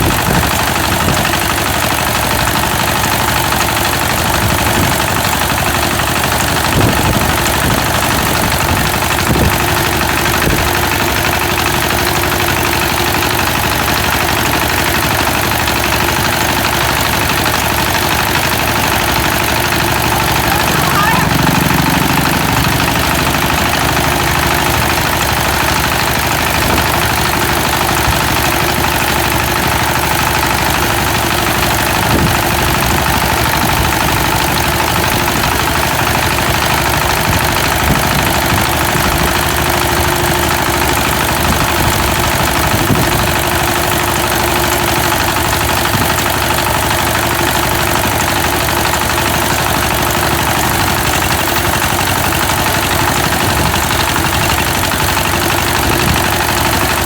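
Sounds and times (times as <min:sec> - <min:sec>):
machine engine running loudly: 0:00.0 - 0:57.0.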